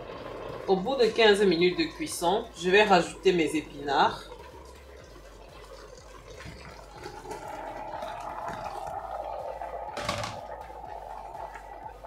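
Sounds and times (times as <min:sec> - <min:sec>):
steady simmering hiss: 0:00.0 - 0:12.0.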